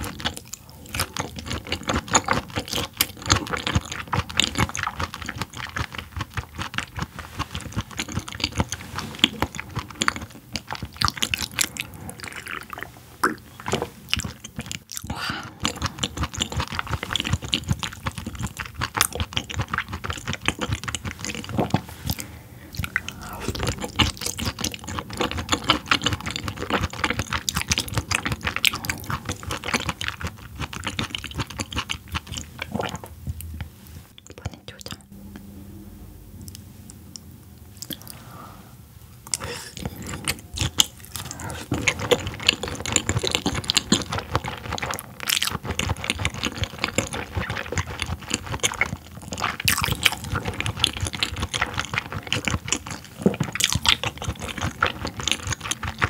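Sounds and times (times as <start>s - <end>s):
chewing mouth clicks: 0.0s - 35.1s, 39.2s - 56.0s.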